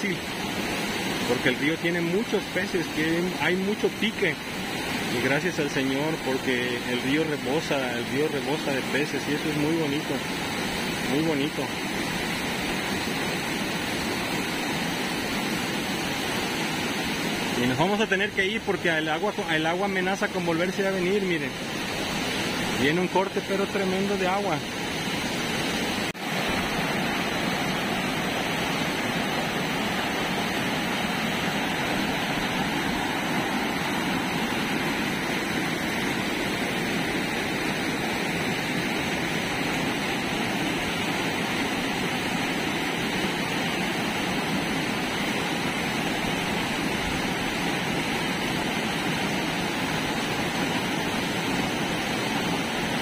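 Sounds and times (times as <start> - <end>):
water rushing over rocks: 0.0 - 53.0.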